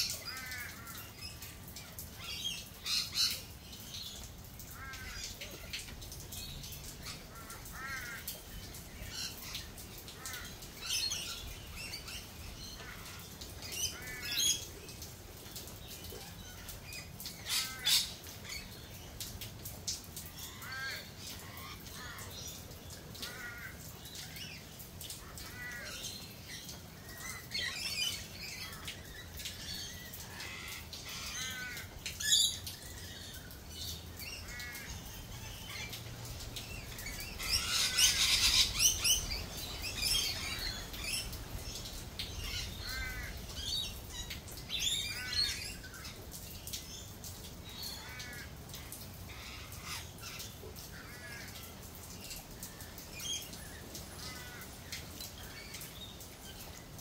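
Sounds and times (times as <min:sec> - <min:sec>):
birds calling: 0:00.0 - 0:57.0
light rain hiss: 0:00.0 - 0:57.0.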